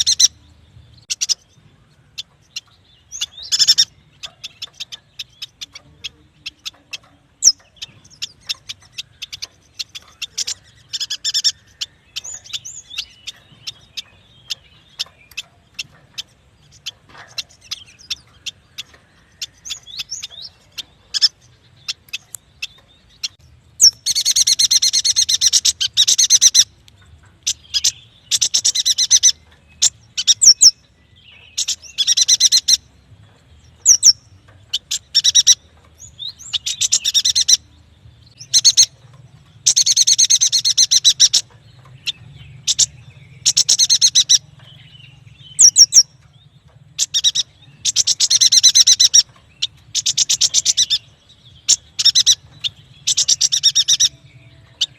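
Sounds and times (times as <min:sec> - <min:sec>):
bird chattering trills: 0:00.0 - 0:54.9.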